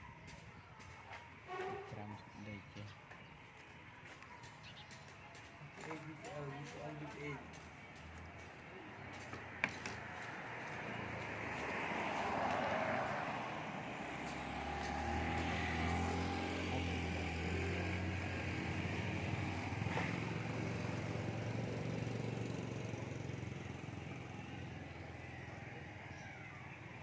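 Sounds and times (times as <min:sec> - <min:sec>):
vehicle engine running: 0:04.2 - 0:26.6.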